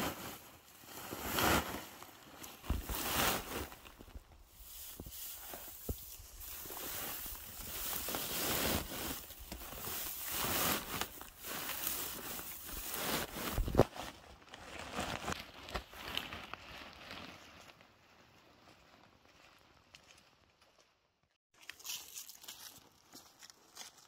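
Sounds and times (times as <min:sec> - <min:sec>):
dry grass rustling and crackling: 0:00.0 - 0:20.8, 0:21.6 - 0:24.0.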